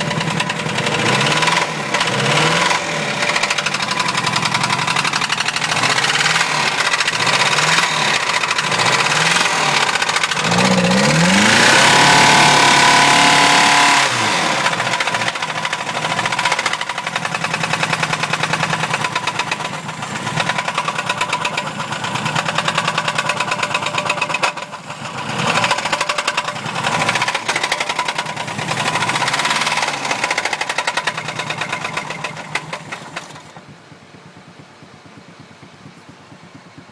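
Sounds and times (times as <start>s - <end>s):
knocking engine revving: 0.0s - 36.9s.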